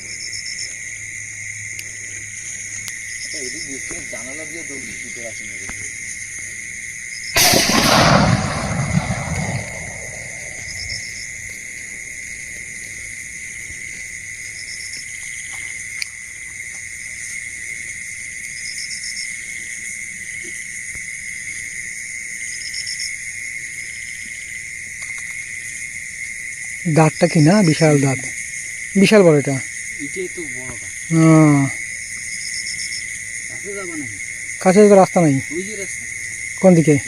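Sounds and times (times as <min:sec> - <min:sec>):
insects ringing and chirping: 0:00.0 - 0:37.0.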